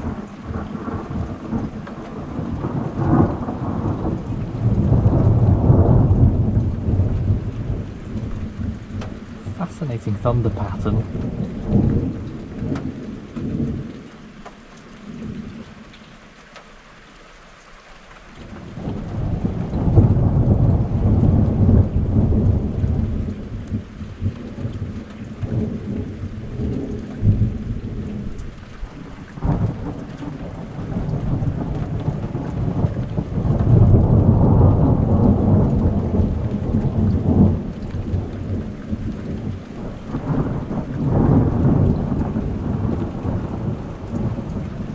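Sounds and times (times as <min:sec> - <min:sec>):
thunder rumbling: 0:00.0 - 0:16.0, 0:18.4 - 0:44.9
steady rain: 0:00.0 - 0:44.9.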